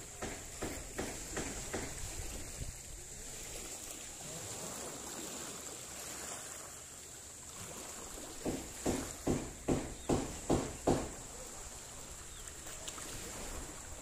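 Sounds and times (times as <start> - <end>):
gentle waves: 0.0 - 14.0
wind at shoreline: 0.0 - 14.0.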